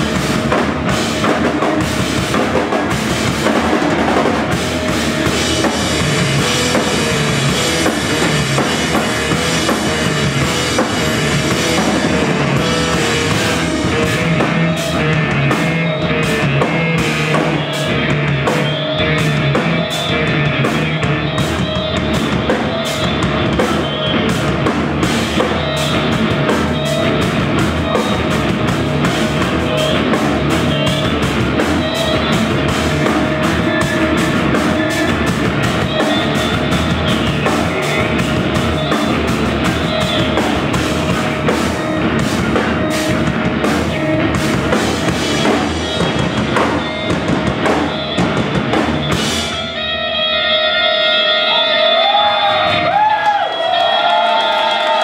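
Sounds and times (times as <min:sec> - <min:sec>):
drum kit: 0:00.0 - 0:50.8
electric bass guitar: 0:00.0 - 0:54.2.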